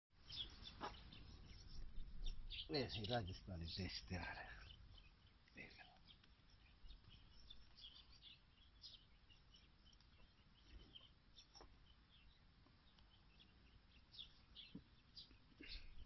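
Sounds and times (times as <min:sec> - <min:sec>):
faint bird chirps: 0:00.2 - 0:16.0.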